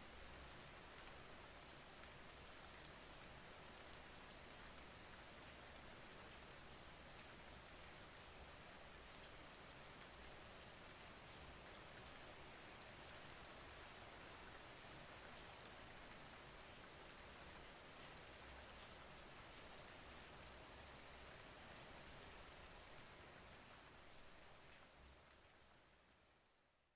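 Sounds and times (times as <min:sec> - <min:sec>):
faint steady rain patter: 0:00.0 - 0:26.9.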